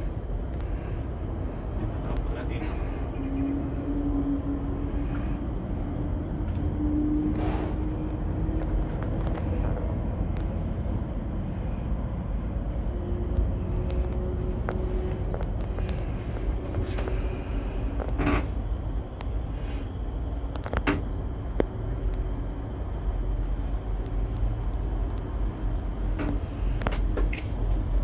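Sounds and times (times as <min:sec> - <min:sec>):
cable car cabin rumble: 0:00.0 - 0:28.0
faint rising hum: 0:00.0 - 0:28.0.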